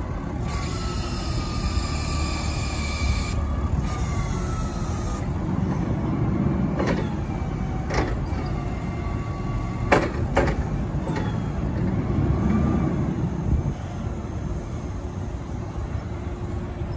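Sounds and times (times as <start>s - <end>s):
forklift engine rumble: 0.0s - 16.9s.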